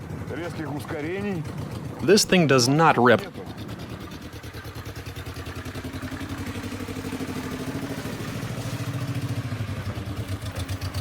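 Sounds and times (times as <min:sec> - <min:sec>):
car engine under hard throttle: 0:00.0 - 0:11.0.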